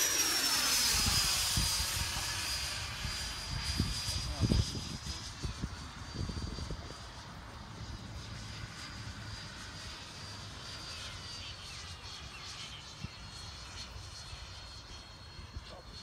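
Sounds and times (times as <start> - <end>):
distant rc jet fan whine: 0.0 - 16.0.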